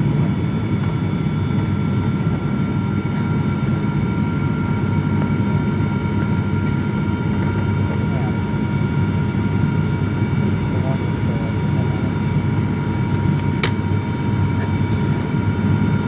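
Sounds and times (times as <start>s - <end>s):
airliner engine and airflow rumble: 0.0s - 16.0s
thin steady whining tones: 0.6s - 16.0s.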